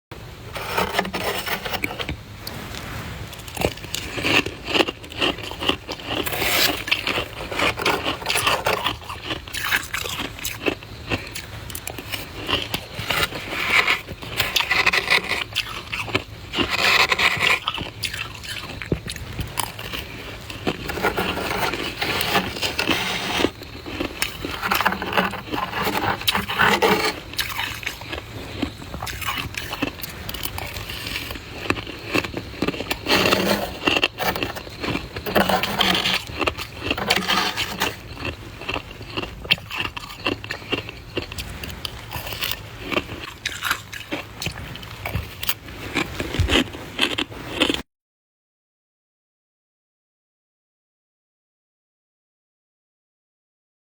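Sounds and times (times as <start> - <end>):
person crunching ice: 0.4 - 47.8.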